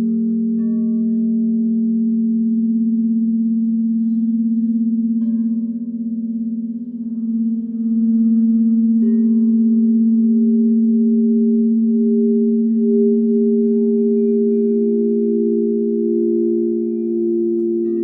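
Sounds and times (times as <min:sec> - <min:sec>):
crystal singing bowls: 0:00.0 - 0:18.0.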